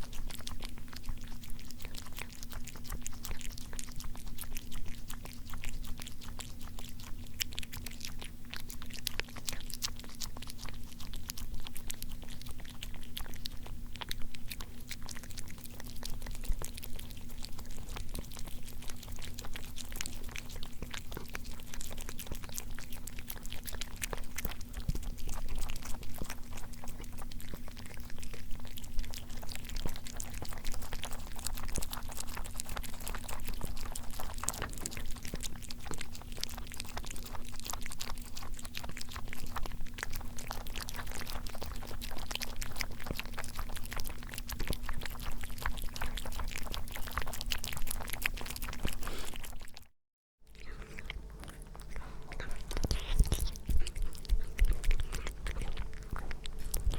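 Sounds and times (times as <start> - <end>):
food chewing and crunching: 0.0 - 56.9.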